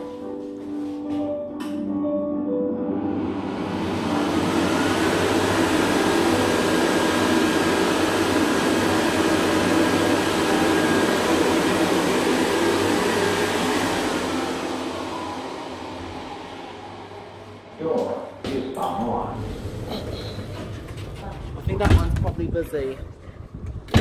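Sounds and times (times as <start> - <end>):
hand dryer blowing: 2.9 - 22.2.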